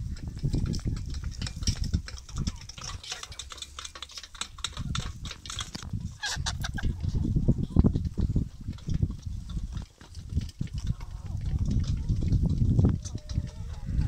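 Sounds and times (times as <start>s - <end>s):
chickens pecking and scratching: 0.0s - 14.0s.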